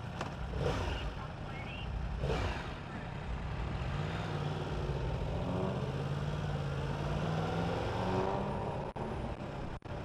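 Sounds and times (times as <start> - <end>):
motorcycle engine at low revs: 0.0 - 10.0
other vehicle engines: 0.0 - 10.0
road noise: 0.0 - 10.0.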